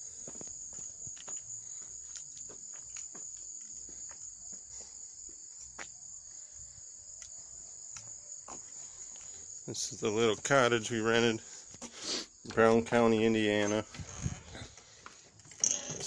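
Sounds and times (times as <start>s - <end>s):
footsteps on grass and pavement: 0.0s - 6.0s, 7.9s - 15.3s
insect chorus: 0.0s - 16.0s.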